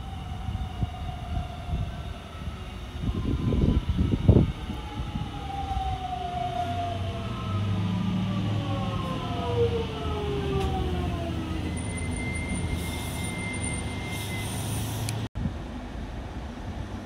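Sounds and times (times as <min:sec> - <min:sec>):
train multi-tone whine: 0:00.0 - 0:16.9
train low rumble: 0:00.0 - 0:17.0.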